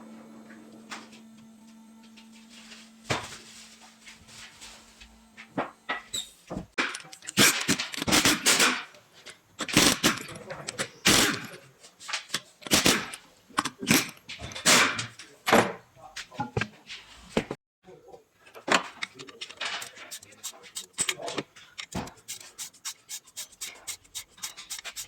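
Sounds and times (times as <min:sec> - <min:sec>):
knocks clatters and scrapes: 0:02.1 - 0:17.6, 0:18.4 - 0:25.0.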